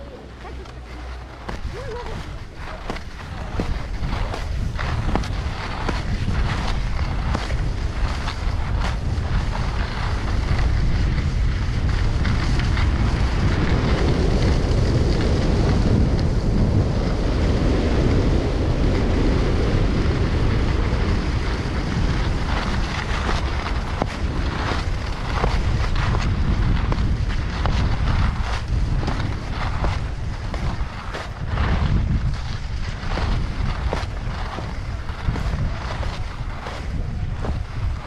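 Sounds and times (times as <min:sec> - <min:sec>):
skis scraping over snow: 0:00.0 - 0:38.0
wind buffeting microphone: 0:00.0 - 0:38.0.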